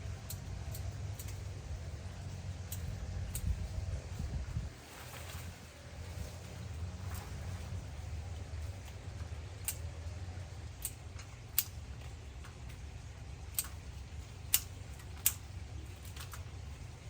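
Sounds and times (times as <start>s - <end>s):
steady low rumble: 0.0s - 17.0s
pruning shears snipping twigs: 0.1s - 3.8s, 5.2s - 16.6s.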